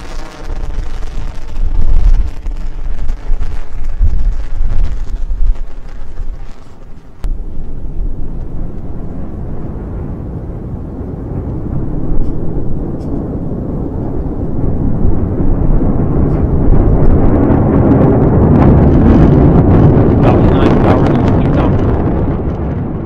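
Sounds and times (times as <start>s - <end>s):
rocket engines rumbling: 0.0s - 23.0s.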